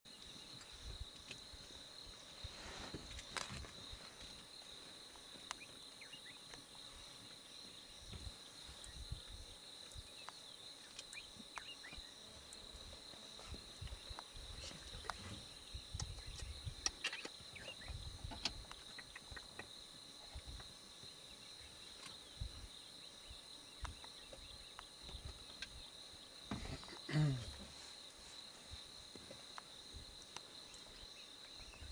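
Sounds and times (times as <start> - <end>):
crickets chirping: 0.1 - 31.9.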